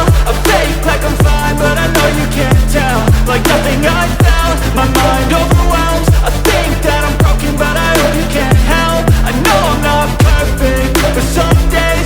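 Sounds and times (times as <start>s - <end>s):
booming kick drums: 0.0s - 12.0s
electronic pop music: 0.0s - 12.0s
synth melody: 1.2s - 12.0s.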